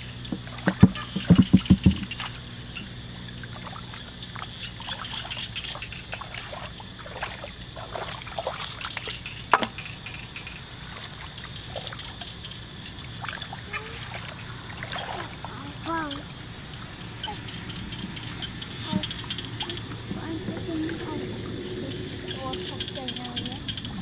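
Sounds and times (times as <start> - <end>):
hands scooping muddy water: 0.3 - 9.8, 10.6 - 23.2.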